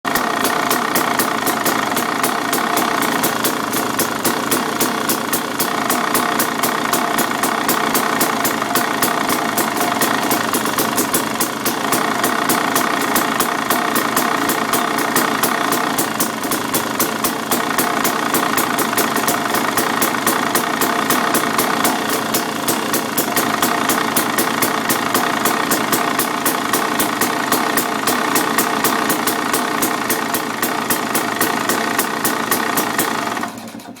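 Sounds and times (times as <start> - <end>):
two-stroke engine idling: 0.0 - 34.0
clutch rattling: 0.1 - 34.0.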